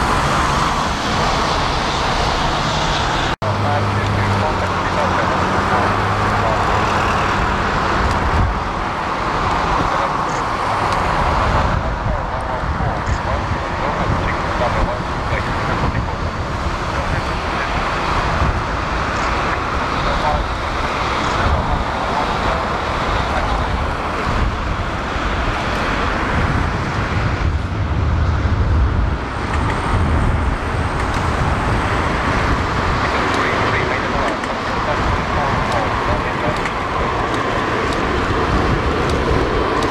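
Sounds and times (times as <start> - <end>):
deep rumble: 0.0 - 39.9
jet engines running: 0.0 - 39.9.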